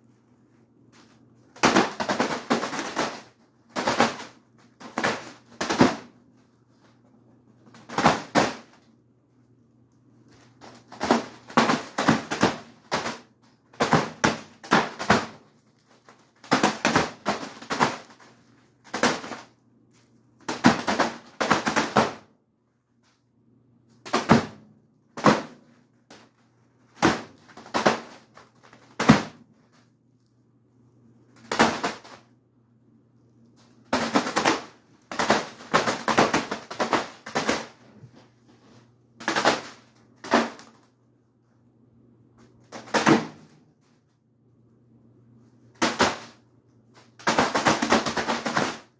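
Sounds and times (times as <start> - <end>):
ceiling fan humming: 0.0 - 48.9
fan blades slapping foil balloon: 0.1 - 9.0, 10.2 - 22.4, 23.8 - 29.9, 31.3 - 32.4, 33.5 - 41.6, 42.4 - 44.0, 45.6 - 48.9.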